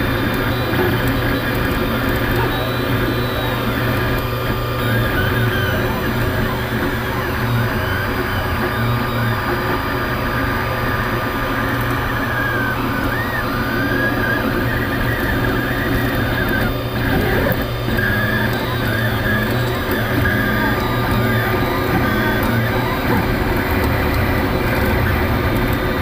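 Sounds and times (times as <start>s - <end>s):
stepper motors whining: 0.0s - 26.0s.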